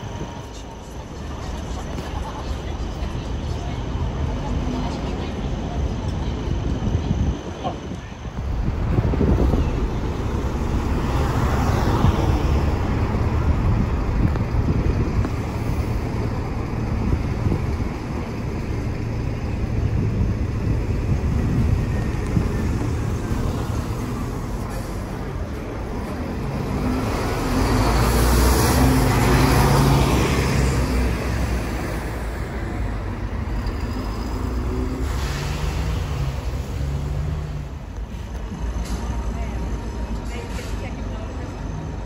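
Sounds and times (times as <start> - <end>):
diesel bus engines running: 0.0 - 42.0.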